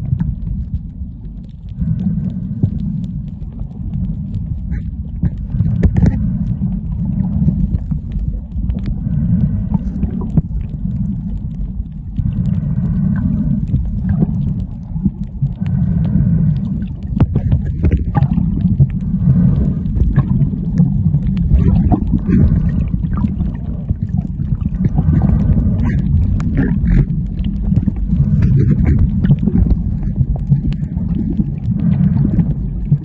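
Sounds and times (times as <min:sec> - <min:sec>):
faint pitched underwater sound: 0:00.0 - 0:33.0
low rumble of moving water: 0:00.0 - 0:33.0.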